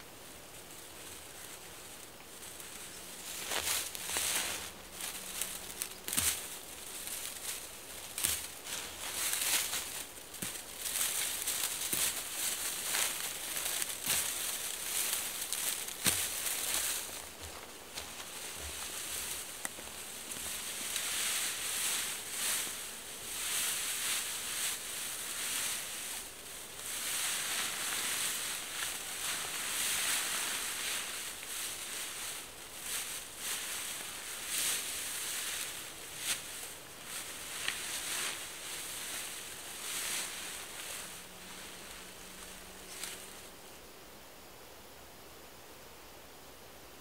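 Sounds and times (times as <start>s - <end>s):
dry fern rustling and crackling: 0.0s - 43.7s.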